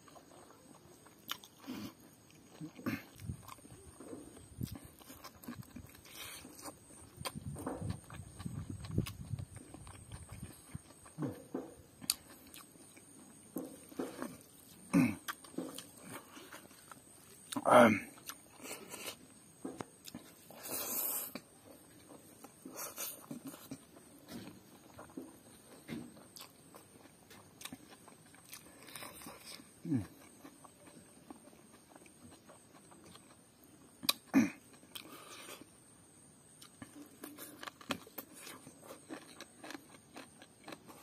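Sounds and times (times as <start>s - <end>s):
man chewing food: 0.0s - 41.0s.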